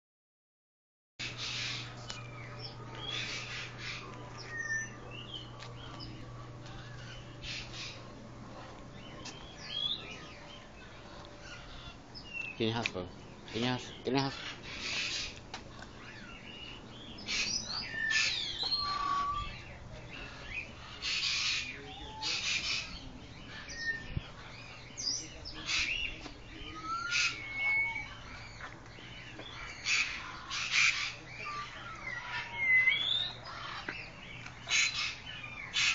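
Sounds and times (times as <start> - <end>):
birds chirping and whistling: 1.2 - 35.9
harsh squawking bird calls: 1.2 - 35.9.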